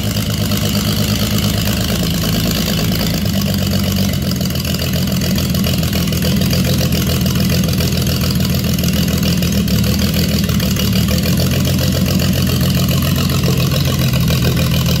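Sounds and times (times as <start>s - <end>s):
petrol engine running: 0.0s - 15.0s.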